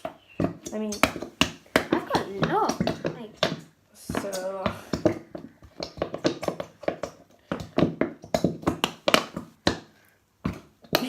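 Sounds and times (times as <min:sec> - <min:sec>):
spoon stirring sticky slime: 0:00.0 - 0:09.9.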